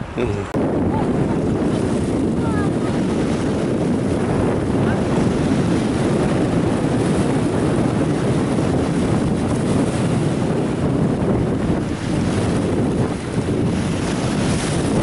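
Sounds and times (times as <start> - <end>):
ocean surf breaking: 0.0 - 15.0
wind on microphone: 0.0 - 15.0.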